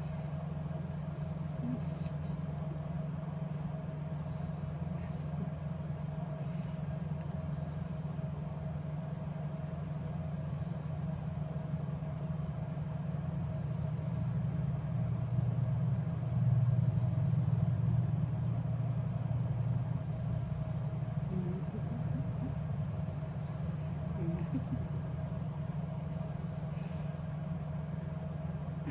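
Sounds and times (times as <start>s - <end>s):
engine low rumble: 0.0s - 28.9s
faint constant hum: 0.0s - 28.9s.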